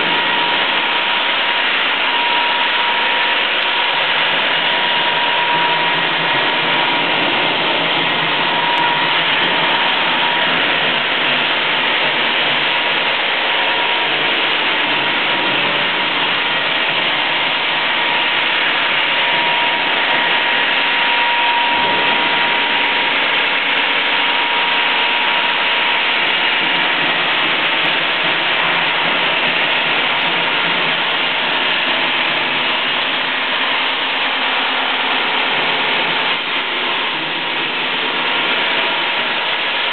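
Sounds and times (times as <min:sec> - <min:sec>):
faint steady whine: 0:00.0 - 0:39.9
stone saw cutting stone slab: 0:00.0 - 0:39.9.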